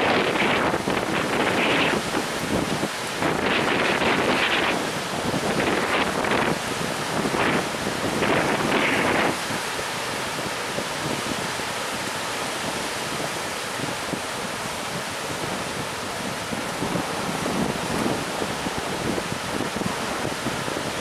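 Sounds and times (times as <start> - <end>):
waves washing onto a beach: 0.0 - 21.0.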